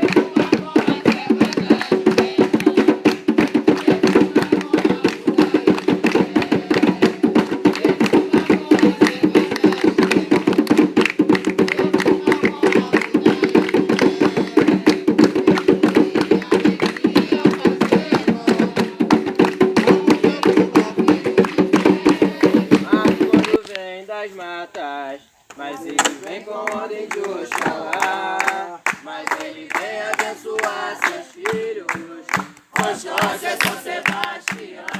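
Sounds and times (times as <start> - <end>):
hand drums driving rhythm: 0.0 - 23.6, 27.5 - 34.9.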